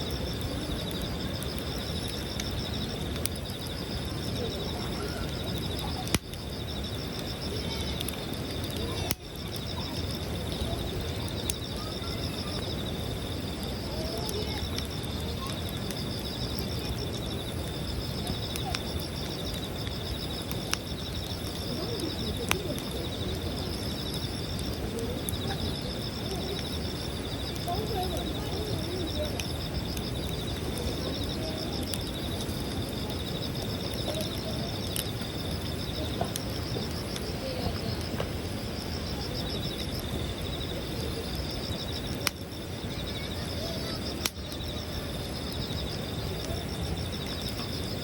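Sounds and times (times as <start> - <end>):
campfire crackling and popping: 0.0 - 48.0
insects trilling: 0.0 - 48.0.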